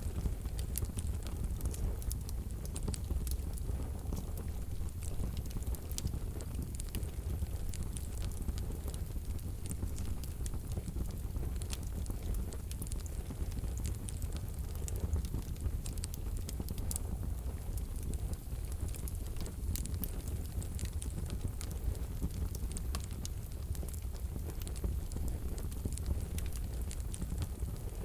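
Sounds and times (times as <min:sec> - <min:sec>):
fire rumbling in a stove: 0:00.0 - 0:28.0
logs crackling and popping: 0:00.0 - 0:28.0.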